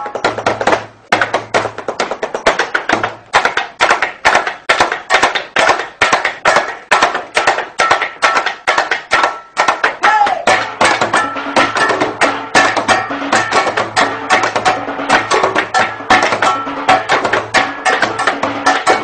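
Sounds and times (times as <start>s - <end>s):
hand percussion on cooking pot: 0.0s - 19.0s.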